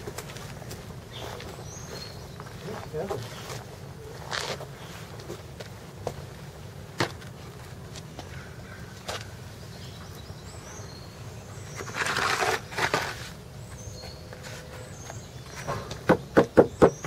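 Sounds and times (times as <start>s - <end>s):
low outdoor hum: 0.0s - 17.0s.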